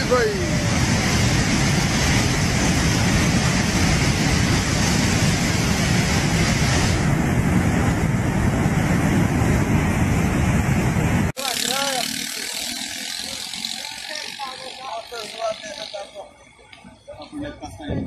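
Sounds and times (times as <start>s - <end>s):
flood water rushing: 0.0s - 14.7s.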